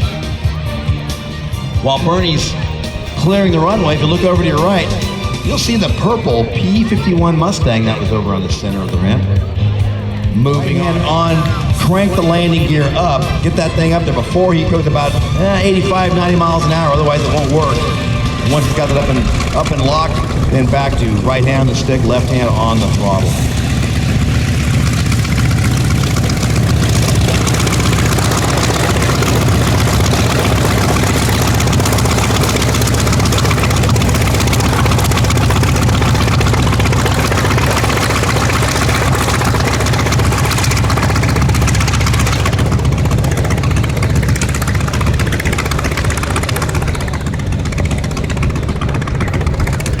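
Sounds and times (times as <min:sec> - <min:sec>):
propeller engine running: 0:00.0 - 0:50.0.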